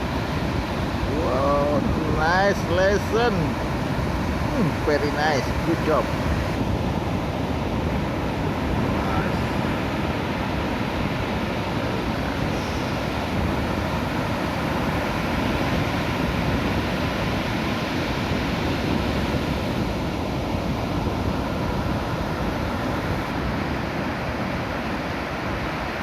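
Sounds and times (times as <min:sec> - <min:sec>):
ocean surf breaking on beach: 0:00.0 - 0:26.0
wind on microphone: 0:00.0 - 0:26.0.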